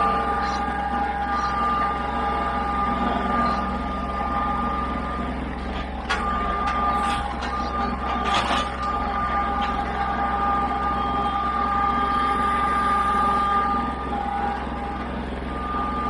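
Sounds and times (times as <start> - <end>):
mechanical hum with whine: 0.0 - 16.0.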